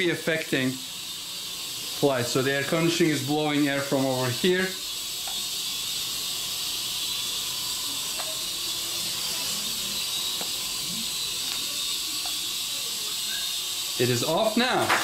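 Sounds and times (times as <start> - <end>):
toy helicopter rotors whirring: 0.0 - 15.0.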